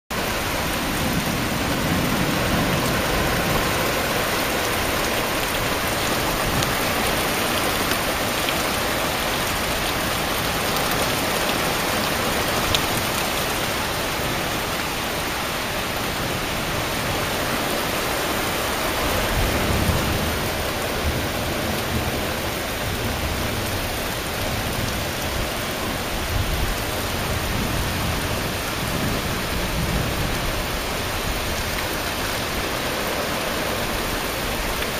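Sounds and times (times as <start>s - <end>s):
heavy rain on trees: 0.1s - 34.9s.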